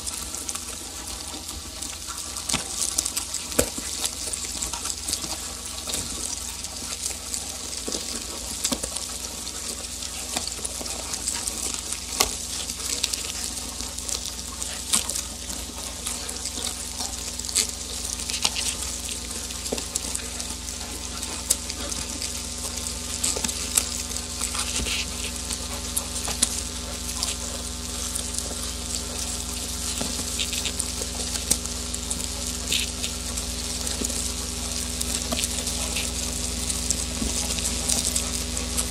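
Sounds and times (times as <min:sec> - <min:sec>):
crackling sizzling synth hiss: 0:00.0 - 0:38.9.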